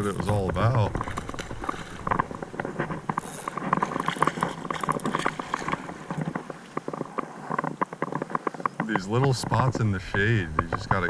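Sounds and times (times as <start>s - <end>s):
shallow creek water splashing: 0.0s - 11.0s.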